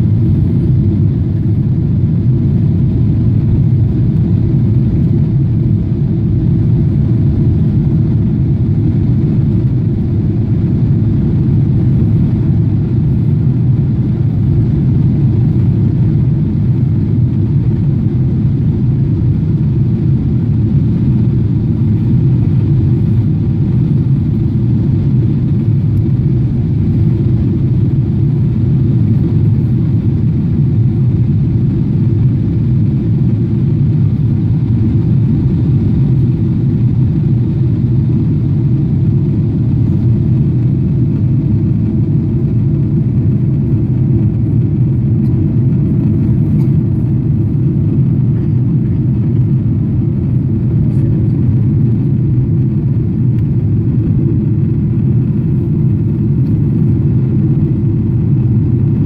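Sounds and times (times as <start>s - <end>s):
jet engine drone in cabin: 0.0s - 59.0s.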